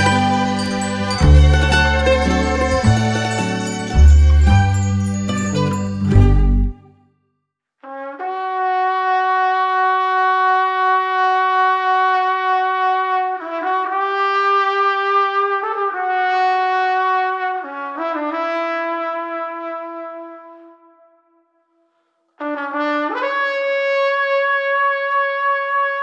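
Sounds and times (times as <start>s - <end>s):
slow brass melody: 0.0s - 5.3s, 7.8s - 21.5s, 22.4s - 26.0s.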